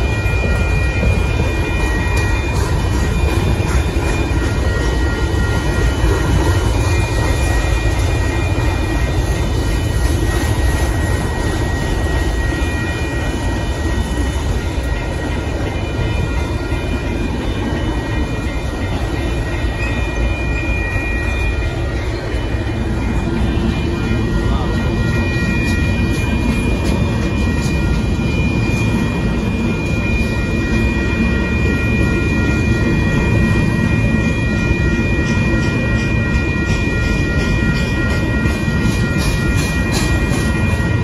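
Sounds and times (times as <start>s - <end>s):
high wheel squeal: 0.0s - 41.0s
train wheels rumbling on rails: 0.0s - 41.0s.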